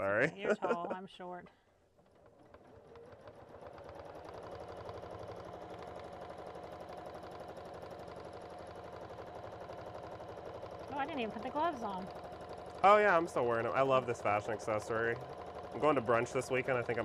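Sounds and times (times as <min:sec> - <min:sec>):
sewing machine stitching rapidly: 0:02.0 - 0:17.0.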